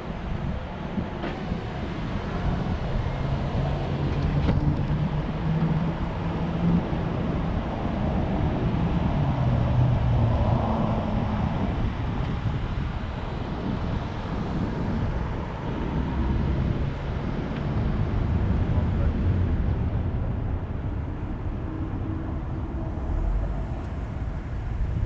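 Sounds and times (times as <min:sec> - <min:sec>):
road noise: 0:00.0 - 0:25.0.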